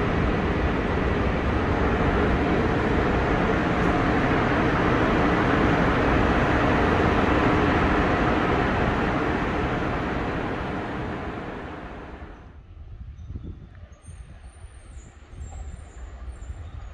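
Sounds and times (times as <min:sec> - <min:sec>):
train rumbling through station: 0:00.0 - 0:16.9.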